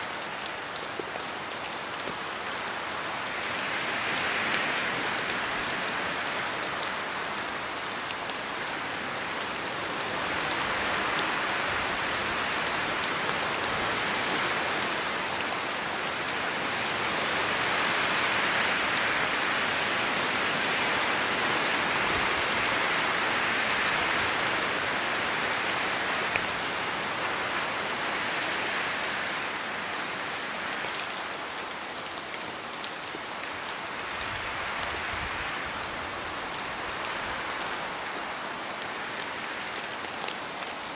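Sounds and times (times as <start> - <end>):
rain falling: 0.0 - 40.9
wind through trees: 0.0 - 40.9.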